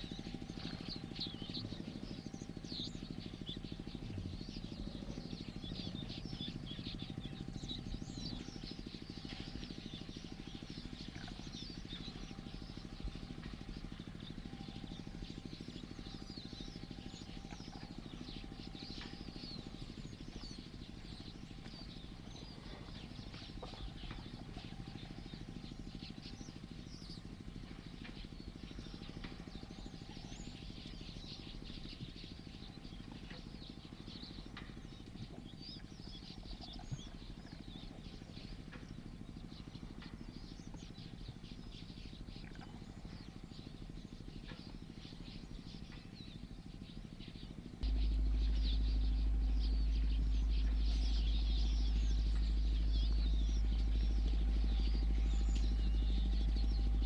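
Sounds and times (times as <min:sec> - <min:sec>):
low background hum: 0:00.0 - 0:57.0
wild birds chirping: 0:00.0 - 0:57.0.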